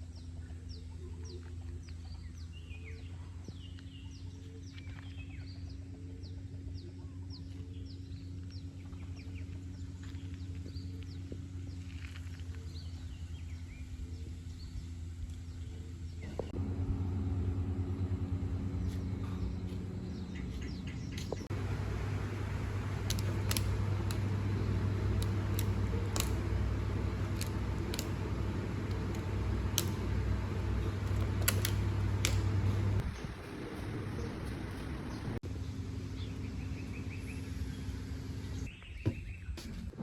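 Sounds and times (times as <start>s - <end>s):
car engine hum: 0.0s - 38.7s
road noise: 0.0s - 38.7s.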